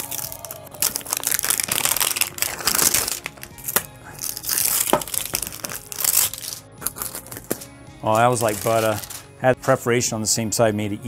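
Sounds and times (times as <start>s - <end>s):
fork piercing plastic wrap: 0.0s - 9.3s
plastic wrap crinkling: 0.0s - 9.3s.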